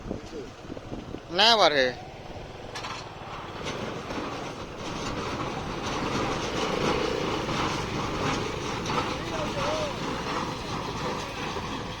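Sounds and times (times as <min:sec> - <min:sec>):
tractor engine running: 0:00.0 - 0:12.0
hay machinery clattering: 0:01.3 - 0:12.0.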